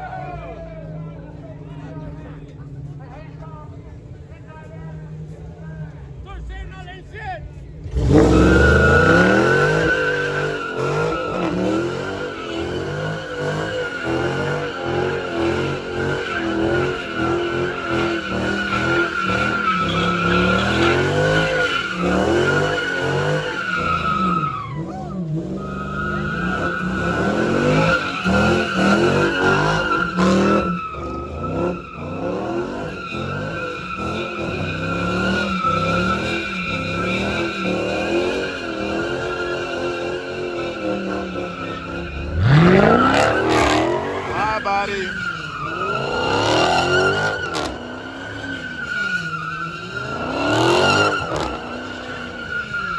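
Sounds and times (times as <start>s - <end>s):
tire squealing: 0.0s - 52.9s
car engine revving: 7.5s - 52.9s.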